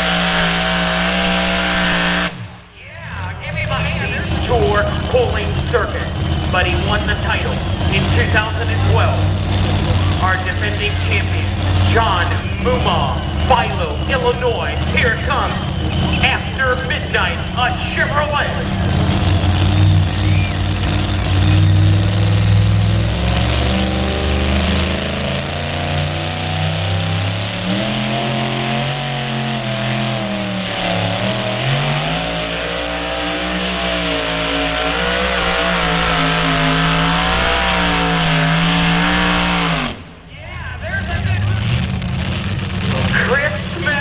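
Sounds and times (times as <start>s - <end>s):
truck engine at full throttle: 0.0s - 44.0s.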